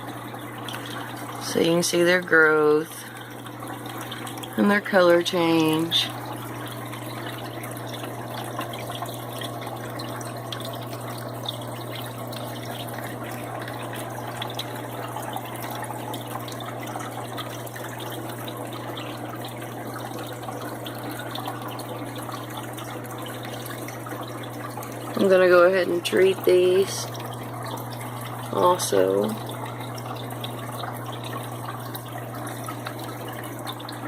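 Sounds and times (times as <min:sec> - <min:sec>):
water trickling and bubbling: 0:00.0 - 0:34.0.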